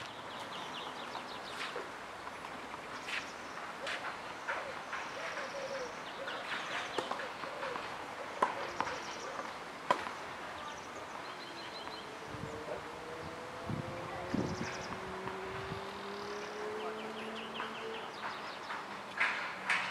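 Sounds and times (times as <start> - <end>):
birds chirping: 0.0 - 19.7.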